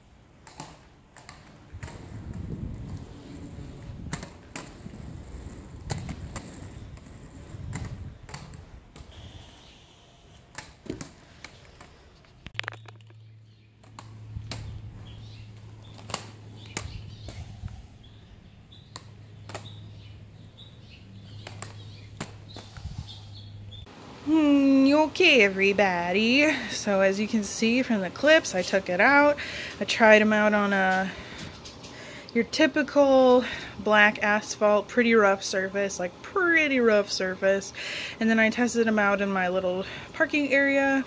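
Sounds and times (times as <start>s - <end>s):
roller skates rolling on concrete: 0.0s - 41.0s.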